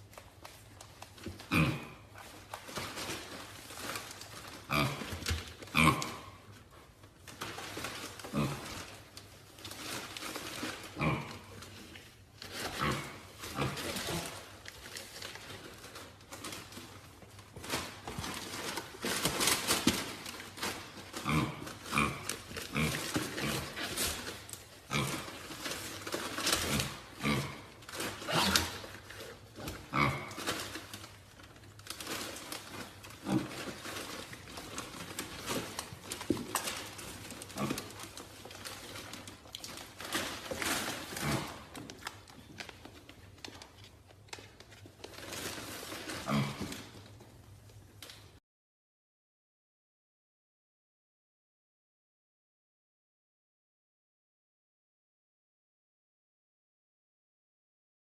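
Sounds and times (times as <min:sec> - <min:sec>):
rustling: 0:00.0 - 0:48.4.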